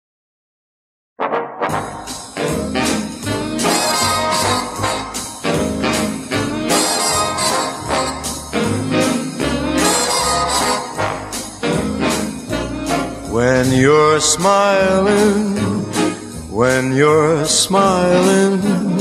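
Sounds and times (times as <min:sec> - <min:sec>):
swing big band playing: 0:01.2 - 0:19.0.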